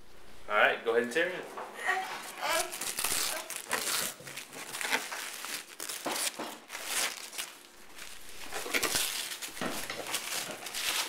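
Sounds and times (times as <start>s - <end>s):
gift wrap paper tearing: 1.9s - 11.0s.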